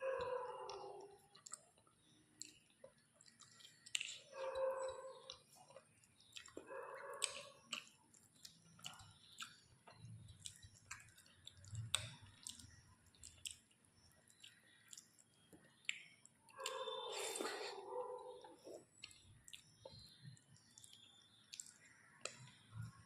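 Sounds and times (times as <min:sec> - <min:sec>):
chewing and mouth smacks: 0:00.1 - 0:23.0.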